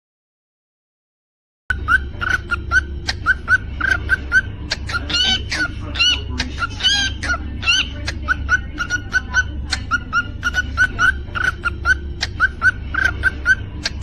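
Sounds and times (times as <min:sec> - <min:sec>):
cockatiel chirping: 0:01.7 - 0:14.0.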